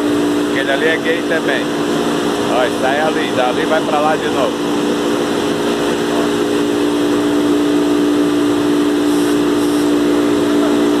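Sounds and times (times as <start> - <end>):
polishing machine humming: 0.0 - 11.0.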